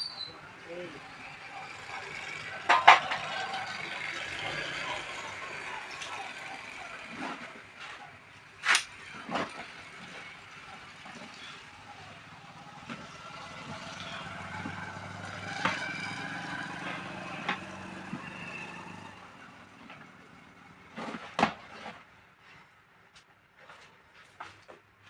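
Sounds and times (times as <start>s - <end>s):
vehicle noise rumble: 0.0s - 25.0s.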